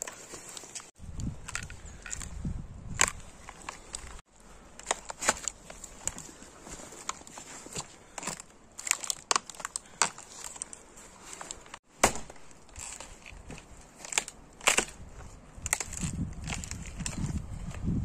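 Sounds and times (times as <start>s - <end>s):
dry twigs crunching and snapping: 0.0s - 18.0s.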